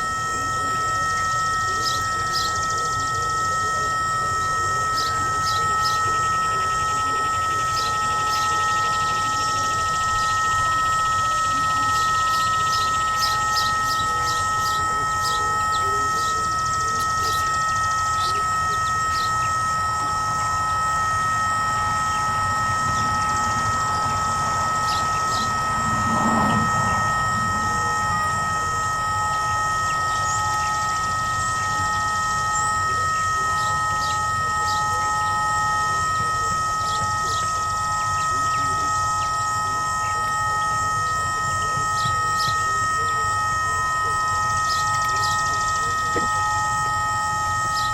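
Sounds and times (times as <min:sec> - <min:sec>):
electronic siren buzzing tone: 0:00.0 - 0:47.9.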